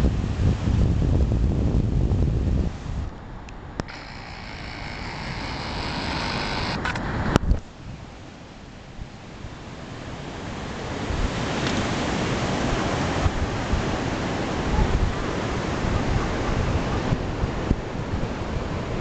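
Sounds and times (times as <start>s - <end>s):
wind buffeting microphone: 0.0s - 8.1s, 8.9s - 19.0s
ocean surf breaking: 2.7s - 19.0s.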